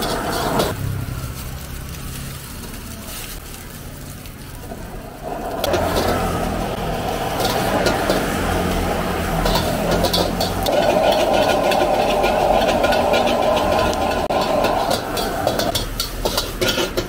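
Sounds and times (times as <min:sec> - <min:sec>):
metal ladle scraping wok: 0:00.0 - 0:03.5, 0:04.6 - 0:17.0
food sizzling in wok: 0:00.0 - 0:17.0
gas burner roaring: 0:00.0 - 0:17.0.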